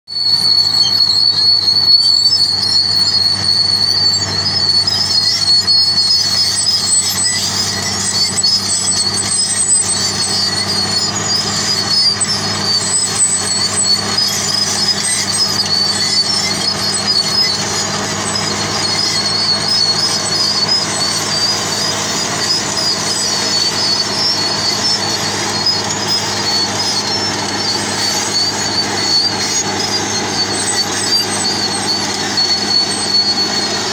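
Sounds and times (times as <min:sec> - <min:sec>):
bulldozer diesel engine droning: 0:00.1 - 0:33.9
metallic squeal of steel tracks: 0:00.1 - 0:33.9.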